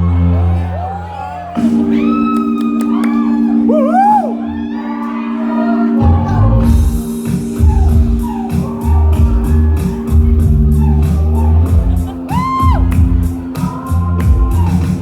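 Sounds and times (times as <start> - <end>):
audience whooping: 0.0 - 5.1, 7.2 - 15.0.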